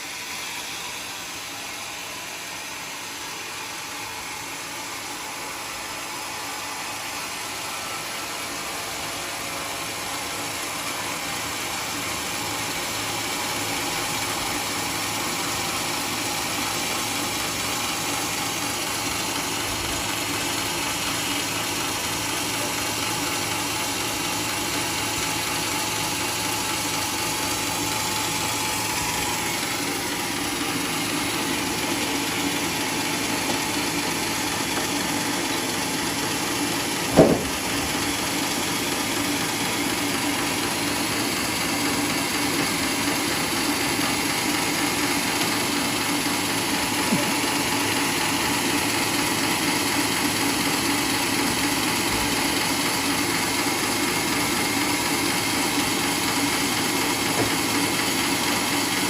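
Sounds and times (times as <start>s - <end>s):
band sawmill sawing log: 0.0s - 59.0s.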